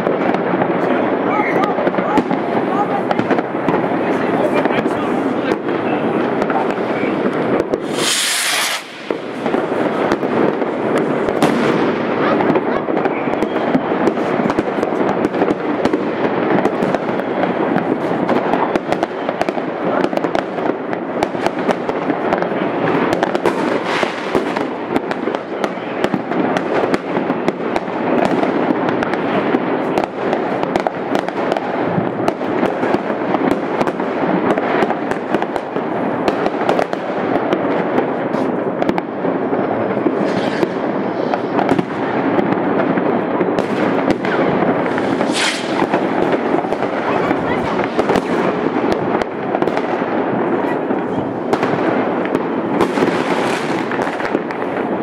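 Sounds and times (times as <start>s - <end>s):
fireworks and firecrackers banging: 0.0s - 55.0s.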